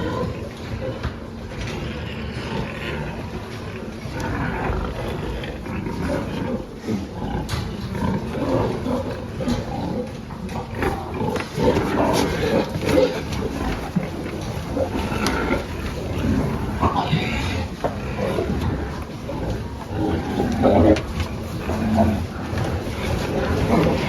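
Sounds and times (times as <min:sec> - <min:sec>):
pigs grunting: 0:00.0 - 0:24.0.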